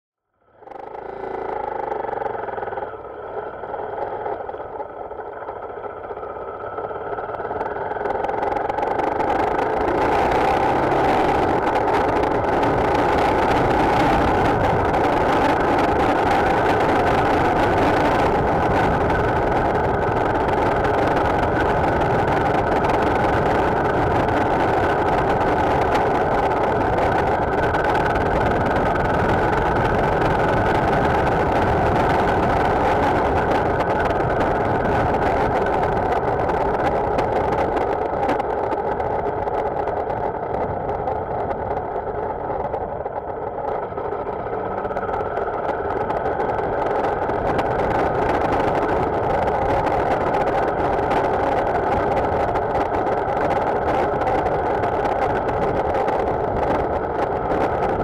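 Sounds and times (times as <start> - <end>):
motorcycle engine running: 0.2 - 58.0
wind noise on microphone: 0.6 - 58.0.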